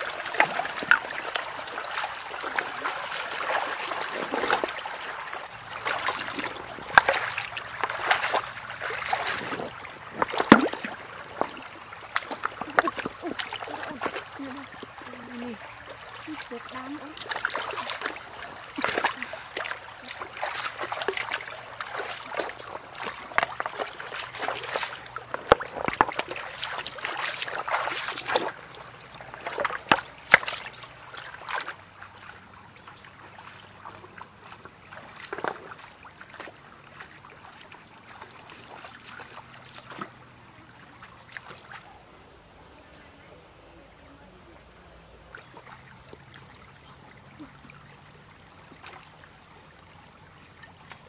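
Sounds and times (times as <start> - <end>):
water splashing: 0.0 - 42.0, 45.2 - 51.0
stream water flowing: 0.0 - 51.0.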